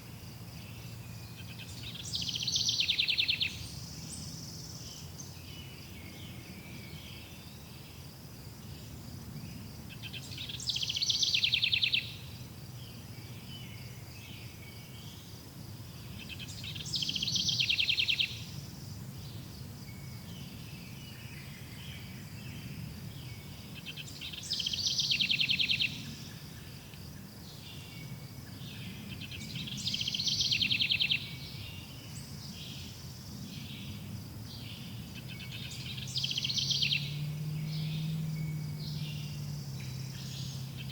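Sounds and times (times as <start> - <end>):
faint low background noise: 0.0 - 40.9
songbird trilled song: 0.5 - 8.0, 8.6 - 40.9.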